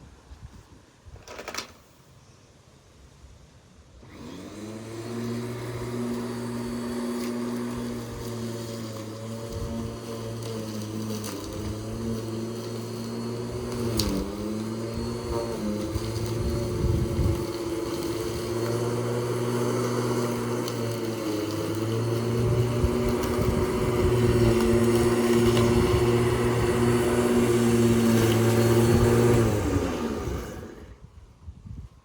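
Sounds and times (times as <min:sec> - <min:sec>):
lawn mower engine running: 0:04.0 - 0:31.2
engine winding down: 0:04.1 - 0:31.0.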